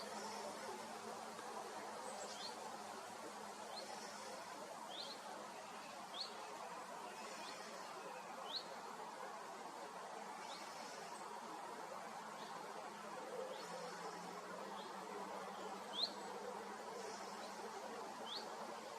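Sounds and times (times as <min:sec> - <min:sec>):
steady outdoor hiss: 0:00.0 - 0:18.9.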